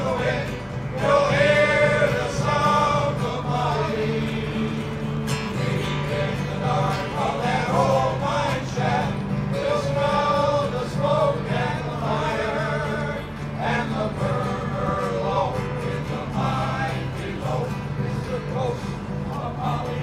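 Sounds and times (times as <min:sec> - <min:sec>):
male chorus singing in harmony: 0:00.0 - 0:20.0.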